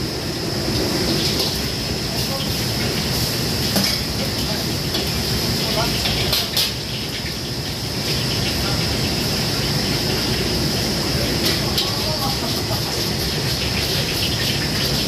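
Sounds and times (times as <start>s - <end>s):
gas burner and extraction roaring: 0.0s - 15.0s
wok hissing: 0.0s - 15.0s.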